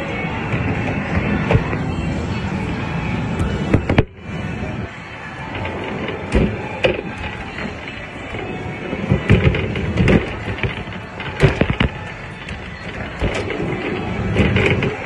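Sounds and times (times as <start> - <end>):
rough noisy rumble: 0.0 - 15.0.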